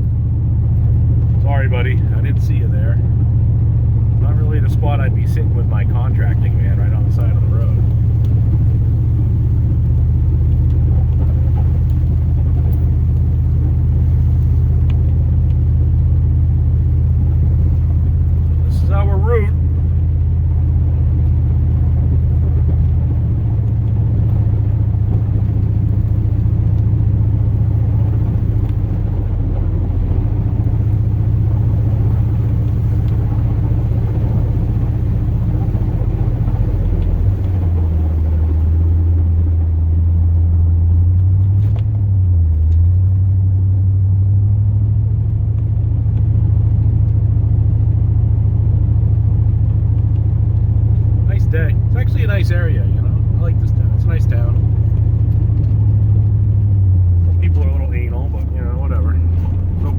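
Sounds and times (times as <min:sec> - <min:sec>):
truck engine driving: 0:00.0 - 0:59.9.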